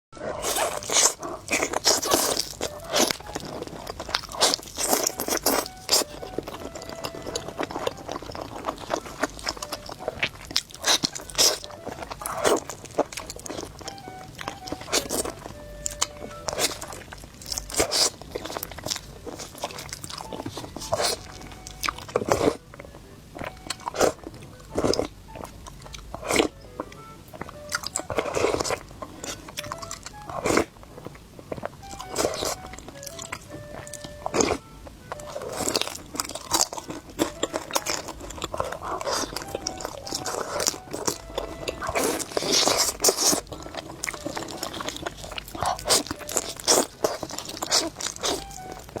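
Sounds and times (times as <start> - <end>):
person crunching food: 0.2 - 49.0
background music: 0.5 - 49.0.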